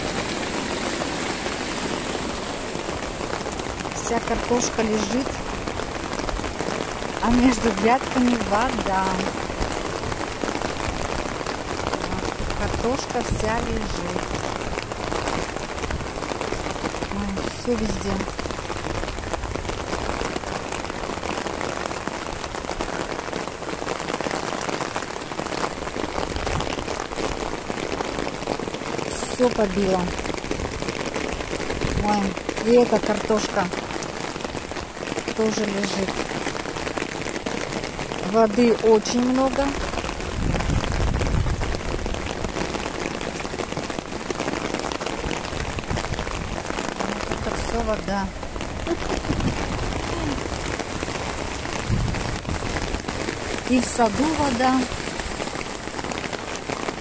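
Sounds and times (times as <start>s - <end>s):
rain falling on plants: 0.0s - 57.0s.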